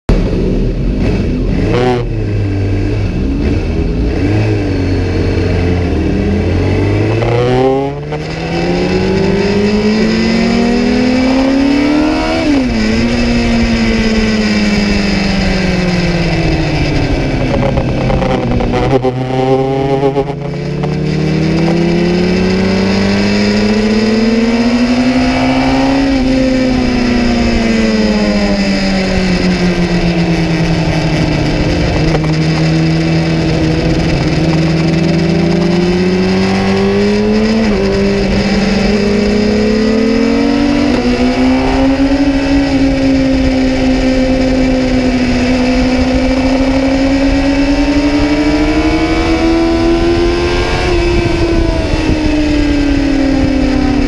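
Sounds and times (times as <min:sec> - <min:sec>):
motorcycle engine at speed: 0:00.1 - 0:54.0.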